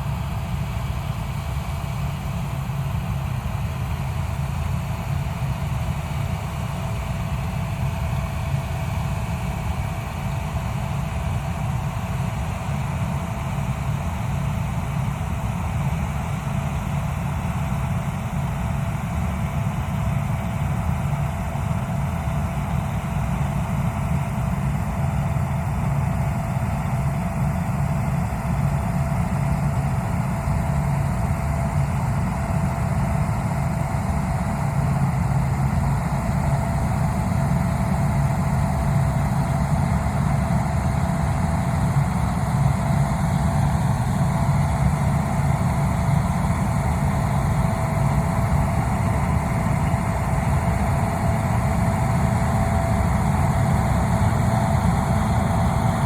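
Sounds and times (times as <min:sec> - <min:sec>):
combine engine drone: 0:00.0 - 0:56.0
thin steady whine: 0:00.0 - 0:56.0.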